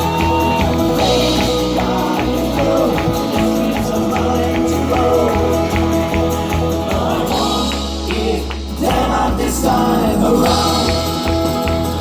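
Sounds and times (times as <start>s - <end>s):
steady percussion beat: 0.0s - 12.0s
person singing over chords: 0.8s - 12.0s.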